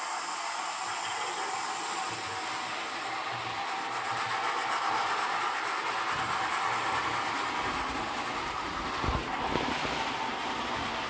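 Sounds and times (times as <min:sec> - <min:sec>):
model train motor whir: 0:00.0 - 0:11.0
small wheels rumbling on rails: 0:01.0 - 0:11.0.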